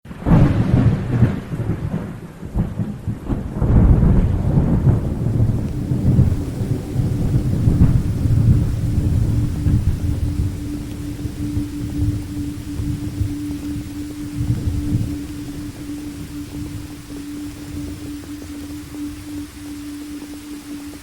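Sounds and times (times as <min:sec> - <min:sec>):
steady rain: 0:00.1 - 0:21.0
thunder rumbling: 0:00.1 - 0:21.0.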